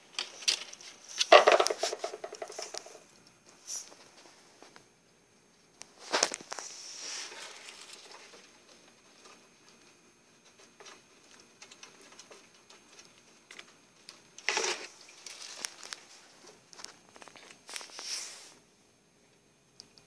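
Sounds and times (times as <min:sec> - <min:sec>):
rats scratching and rustling: 0:00.0 - 0:04.9, 0:05.8 - 0:18.6.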